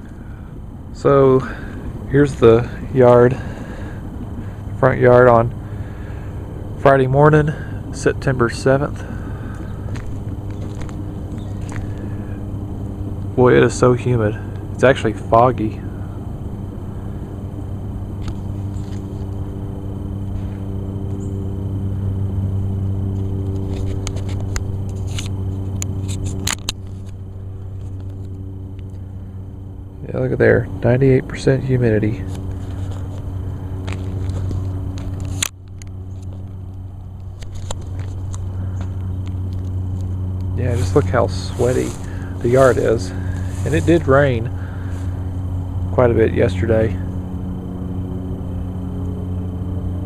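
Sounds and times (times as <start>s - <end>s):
low mechanical hum: 0.0s - 50.0s.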